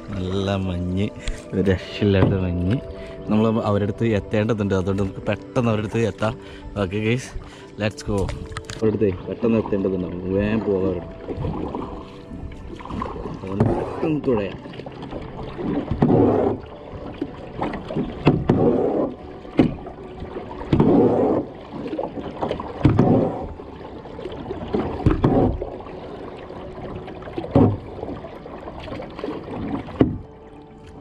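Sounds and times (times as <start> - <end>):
kayak paddle splashing water: 0.0 - 31.0.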